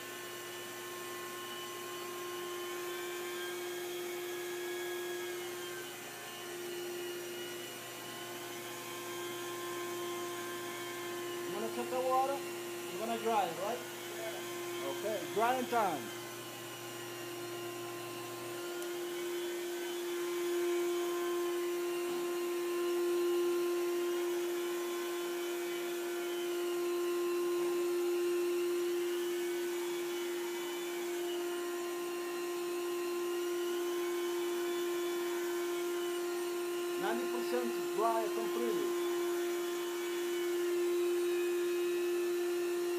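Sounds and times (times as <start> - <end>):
vacuum motor whining hum: 0.0 - 42.9.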